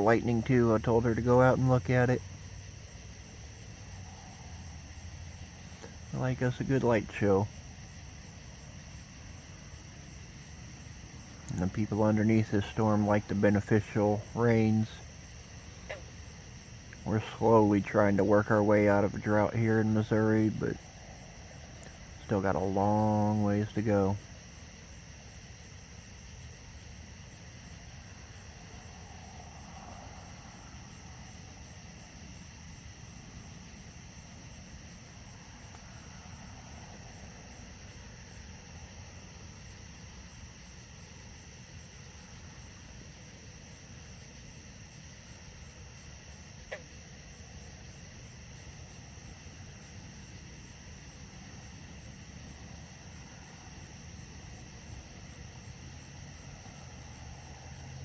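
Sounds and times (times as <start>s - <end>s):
crickets and insects chirping: 0.0s - 58.0s
low background noise: 0.0s - 58.0s.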